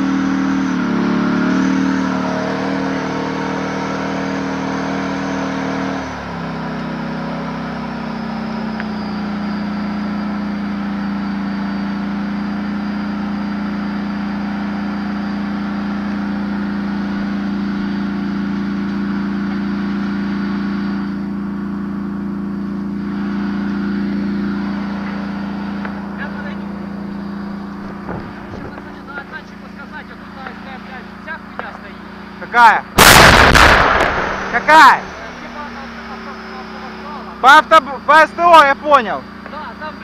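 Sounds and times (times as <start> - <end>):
tank engine droning: 0.0 - 40.0.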